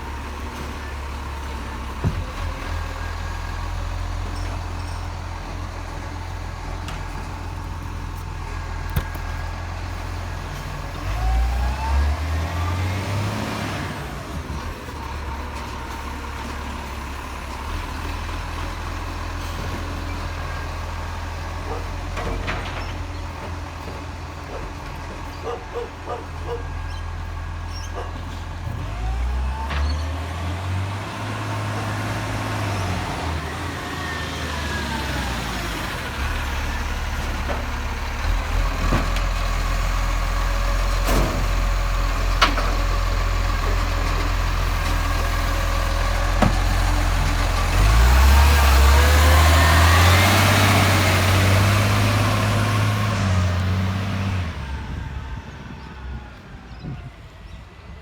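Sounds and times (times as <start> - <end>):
garbage truck engine revving: 0.0 - 56.6.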